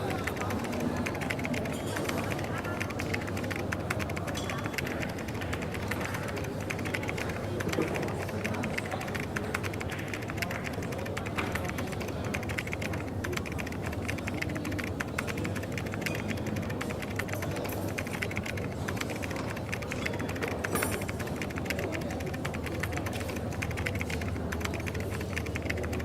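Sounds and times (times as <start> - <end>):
small clicks and taps: 0.0 - 26.0.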